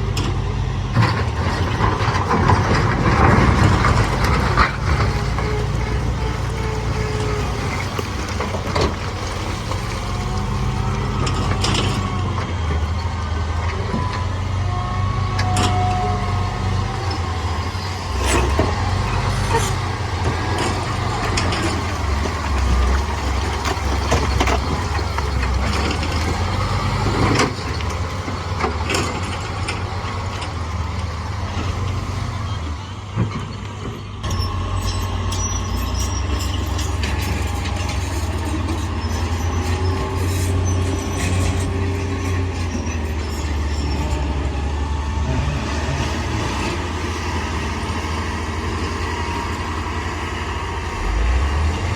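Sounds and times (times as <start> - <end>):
heavy diesel machinery running: 0.0 - 51.9.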